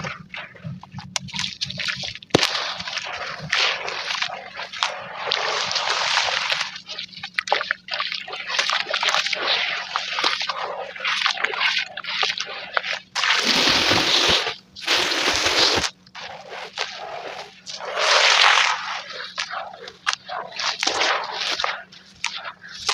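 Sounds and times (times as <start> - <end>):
water splashing: 0.0 - 22.9.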